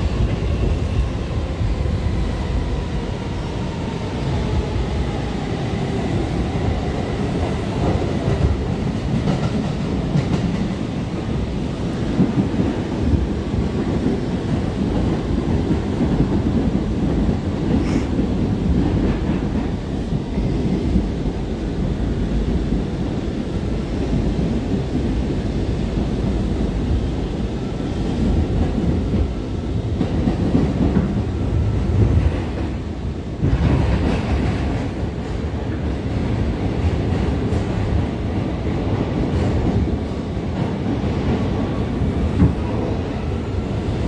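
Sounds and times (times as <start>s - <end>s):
subway wheels on rails: 0.0s - 44.0s.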